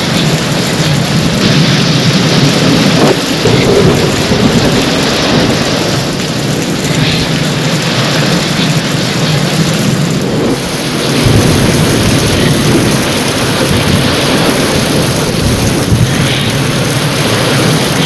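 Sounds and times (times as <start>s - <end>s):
heavy rain falling: 0.0s - 18.0s
thunder rumbling: 0.0s - 18.0s.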